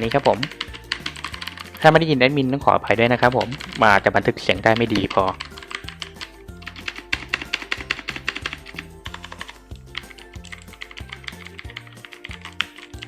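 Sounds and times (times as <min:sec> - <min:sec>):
mechanical keyboard typing: 0:00.0 - 0:02.1, 0:03.0 - 0:13.0
background music with bass line: 0:00.0 - 0:13.0.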